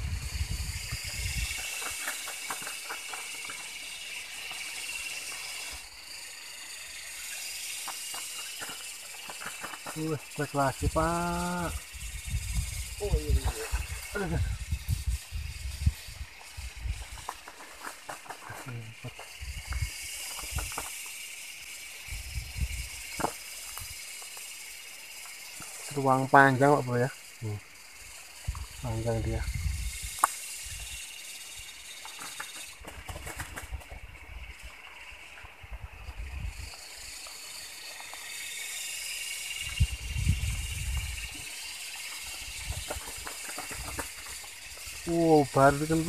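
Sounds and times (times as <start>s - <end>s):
high-pitched hiss: 0.0s - 46.0s
high-pitched insect drone: 0.0s - 46.0s.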